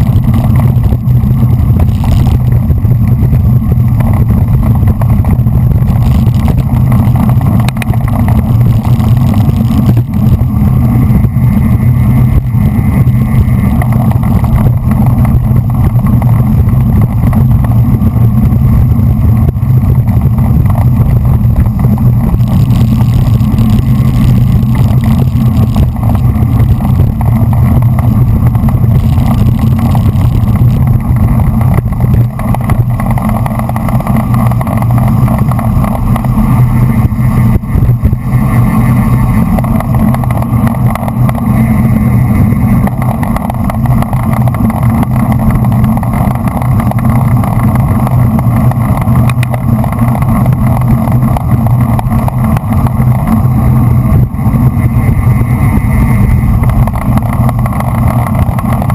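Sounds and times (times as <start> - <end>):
wind rumbling on microphone: 0.0 - 58.9.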